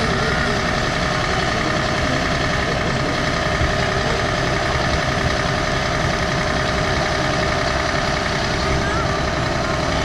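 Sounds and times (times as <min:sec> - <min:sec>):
constant whine: 0:00.0 - 0:10.0
diesel engine idling: 0:00.0 - 0:10.0.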